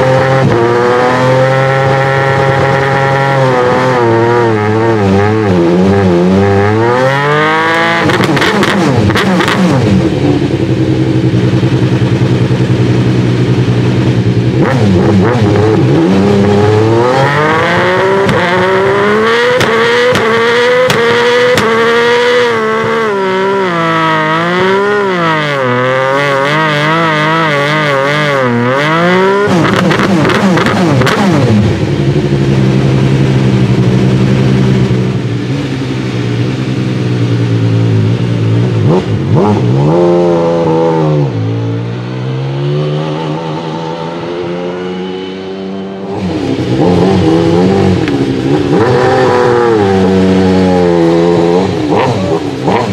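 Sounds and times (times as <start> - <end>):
race car engine revving and idling: 0.0 - 52.9.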